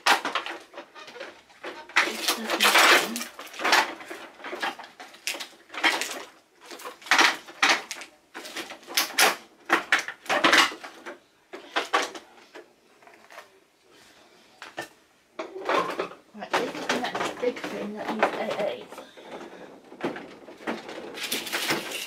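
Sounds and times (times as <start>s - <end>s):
plastic toys clattering: 0.0s - 13.6s, 14.6s - 22.0s.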